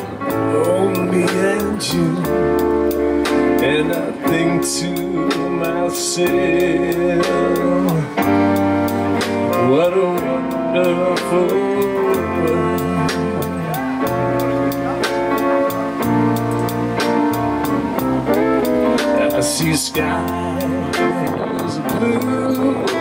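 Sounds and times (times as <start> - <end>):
guitar: 0.0 - 23.0
held melody line: 0.0 - 23.0
steady drum beat: 0.0 - 23.0.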